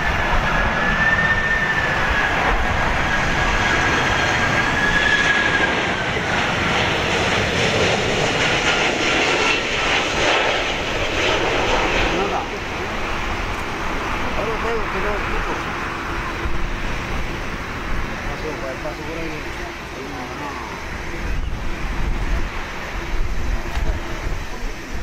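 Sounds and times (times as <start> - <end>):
jet airliner flying overhead: 0.0 - 25.0.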